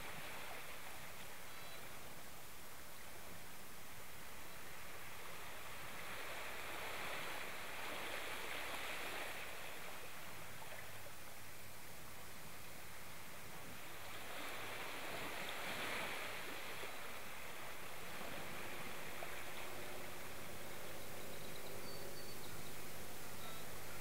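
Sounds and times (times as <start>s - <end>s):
sea water lapping: 0.0s - 2.2s, 4.7s - 24.0s.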